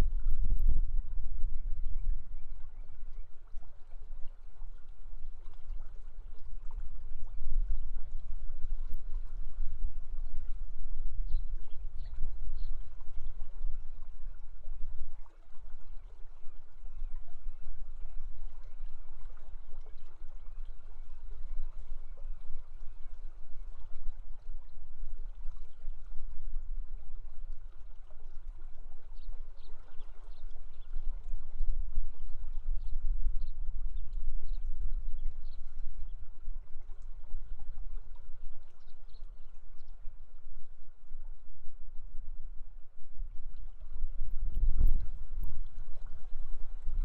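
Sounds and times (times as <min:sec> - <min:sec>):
deep continuous rumble: 0:00.0 - 0:47.0.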